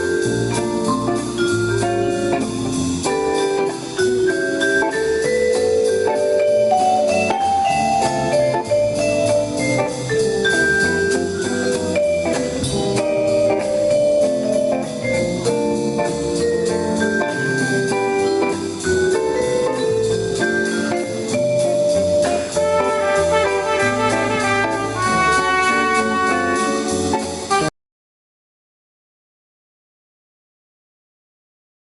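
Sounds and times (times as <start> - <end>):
steady bass: 0.0 - 27.6
drum kit: 0.0 - 27.7
melodic jazz solo: 0.0 - 27.7.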